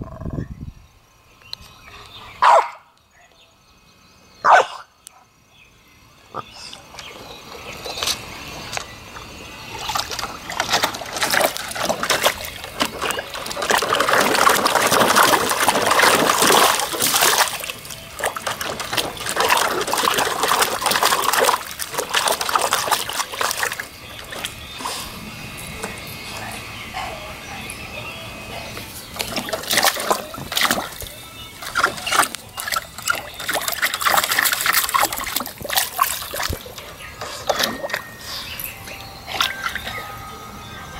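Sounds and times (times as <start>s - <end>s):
dog splashing in pool water: 7.0s - 40.1s.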